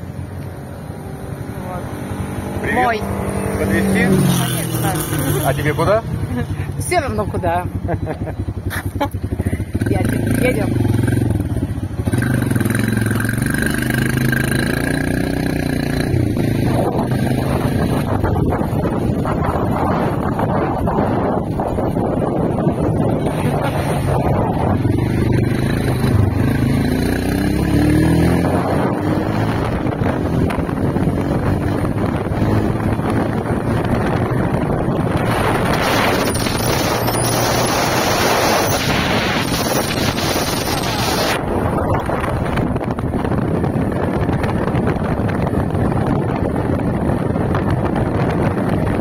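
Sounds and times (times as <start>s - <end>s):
wind rush on microphone: 0.0s - 49.0s.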